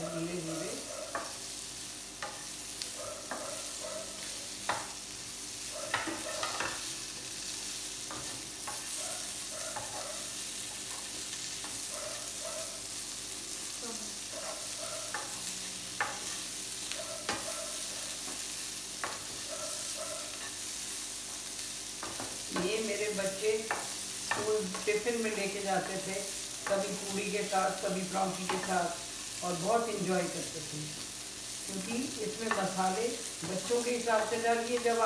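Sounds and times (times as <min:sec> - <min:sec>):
potatoes sizzling in oil: 0:00.0 - 0:35.0.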